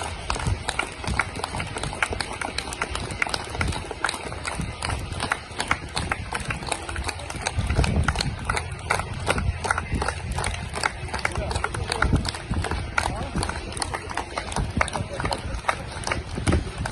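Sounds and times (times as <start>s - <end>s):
rapid hand clapping: 0.0s - 16.9s.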